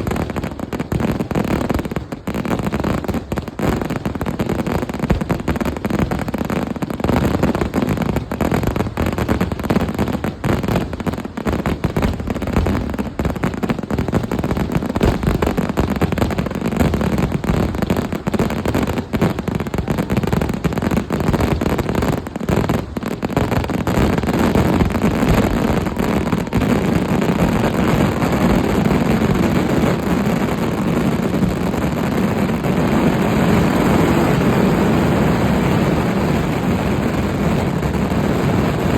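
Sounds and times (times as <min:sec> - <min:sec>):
fireworks bangs and cracks: 0:00.0 - 0:38.9.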